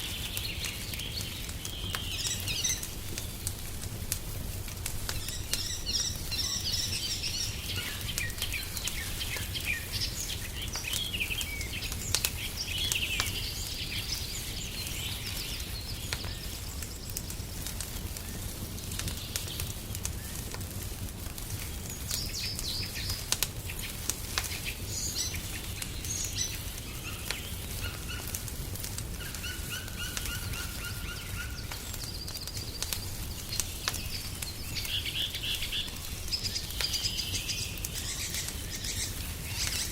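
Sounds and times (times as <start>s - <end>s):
songbirds chirping: 0.0s - 39.9s
wood fire crackling: 0.0s - 39.9s.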